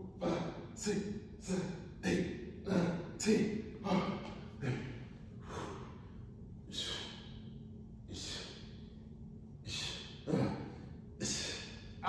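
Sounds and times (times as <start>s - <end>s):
man breathing heavily: 0.0s - 12.0s.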